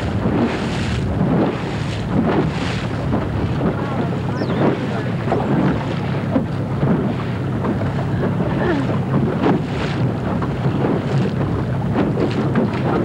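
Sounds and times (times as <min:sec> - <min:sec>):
water rushing around boat: 0:00.0 - 0:13.0
wind noise on microphone: 0:00.0 - 0:13.0.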